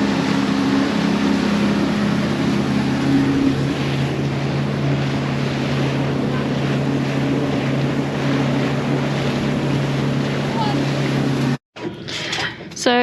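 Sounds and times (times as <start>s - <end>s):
water rushing past hull: 0.0s - 12.3s
outboard motor running: 0.0s - 12.5s.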